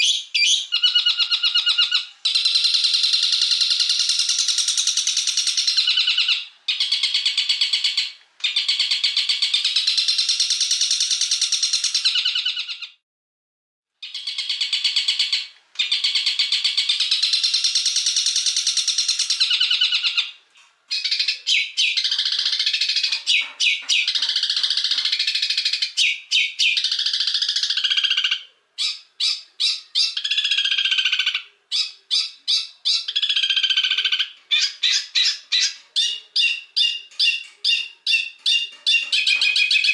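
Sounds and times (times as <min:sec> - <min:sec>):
songbirds chattering song: 0:00.0 - 0:13.0, 0:14.0 - 0:39.9.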